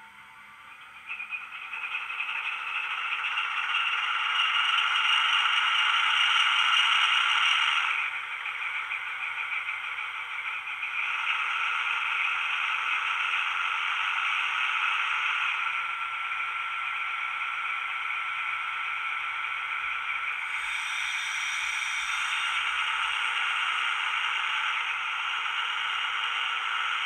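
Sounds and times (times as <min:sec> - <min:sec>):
diesel engine sound from small speaker: 0:00.0 - 0:27.0
thin steady whine: 0:00.0 - 0:27.0.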